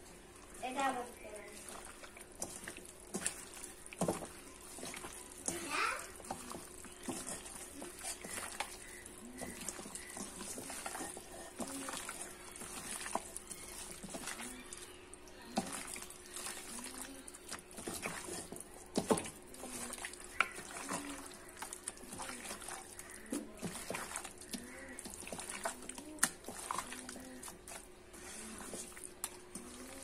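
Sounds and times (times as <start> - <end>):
wet squelches of hand mixing meat: 0.0 - 30.0.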